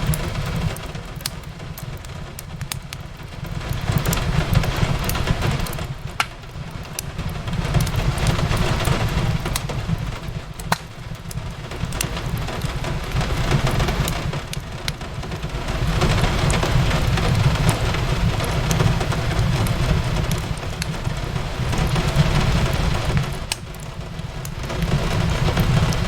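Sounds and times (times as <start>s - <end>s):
fireplace crackling: 0.0s - 26.0s
rain on a window: 0.0s - 26.0s.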